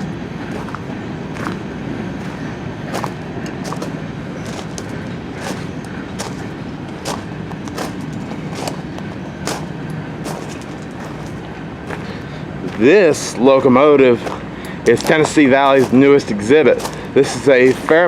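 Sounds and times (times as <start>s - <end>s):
footsteps walking: 0.0s - 13.0s, 14.2s - 18.0s
steady low hum: 0.0s - 18.0s.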